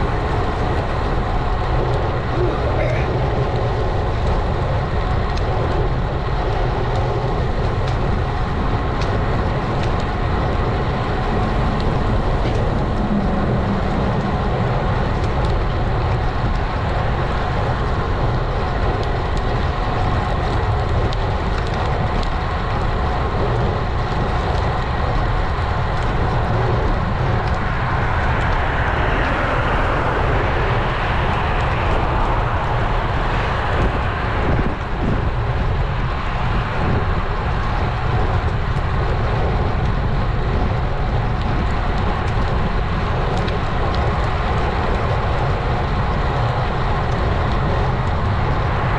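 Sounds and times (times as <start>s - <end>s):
wind and road noise rumble: 0.0s - 48.9s.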